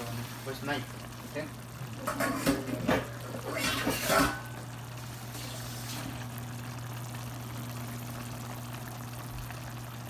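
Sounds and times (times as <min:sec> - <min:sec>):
soup bubbling in a pot: 0:00.0 - 0:10.0.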